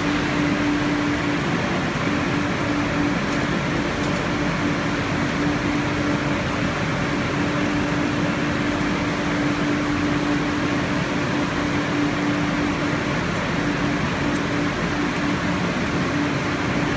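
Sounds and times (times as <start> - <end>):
machinery whirring hum: 0.0 - 16.9.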